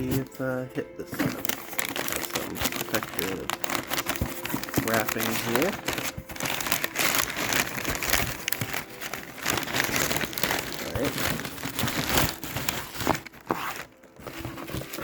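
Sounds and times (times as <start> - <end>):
packing wrap crinkling: 0.0 - 15.0.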